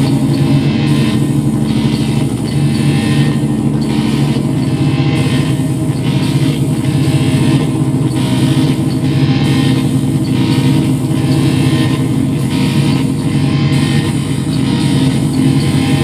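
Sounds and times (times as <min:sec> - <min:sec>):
low electronic drone: 0:00.0 - 0:16.0
pulsing electronic hiss: 0:00.0 - 0:16.0.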